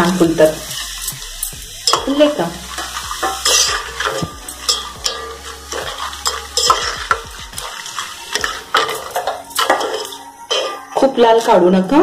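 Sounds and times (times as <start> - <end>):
food sizzling in hot oil: 0.0 - 12.0
spatula scraping metal pot: 0.7 - 11.6.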